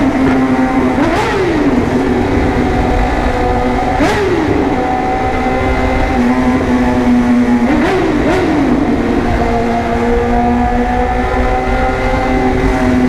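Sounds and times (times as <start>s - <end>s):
motorcycle engine running high: 0.0s - 13.0s.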